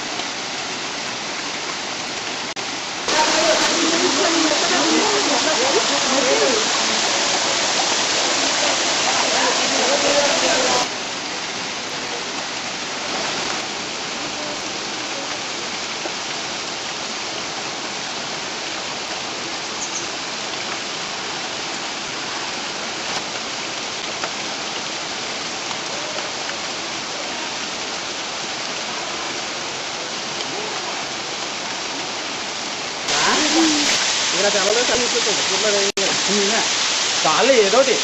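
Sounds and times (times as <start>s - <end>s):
waterfall splashing on boulders: 0.0s - 38.0s.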